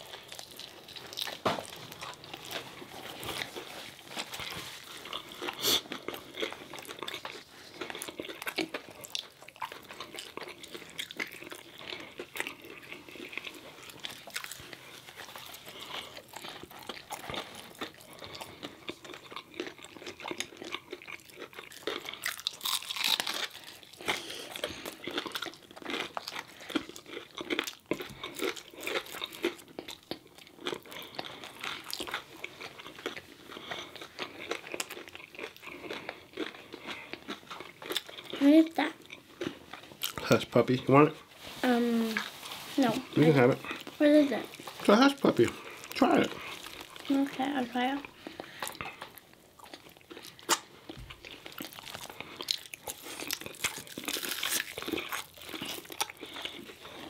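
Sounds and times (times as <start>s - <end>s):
chewing and crunching fried food: 0.0s - 57.0s.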